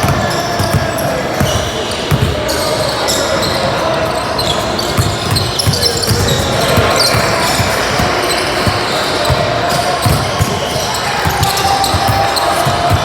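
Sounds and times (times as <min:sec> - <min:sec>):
basketball bouncing: 0:00.0 - 0:02.4, 0:04.8 - 0:13.0
din of voices: 0:00.0 - 0:13.0
sneaker squeaks: 0:00.0 - 0:13.0.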